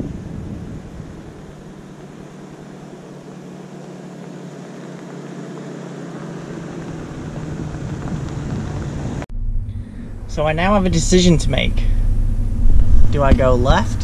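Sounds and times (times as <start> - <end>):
car engine hum approaching: 0.0 - 14.0.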